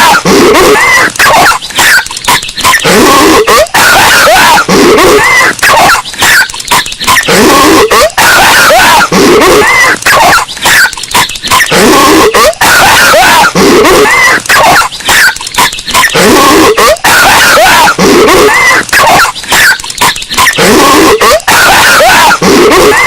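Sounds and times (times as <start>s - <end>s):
cartoon character coughing: 0.0s - 23.0s.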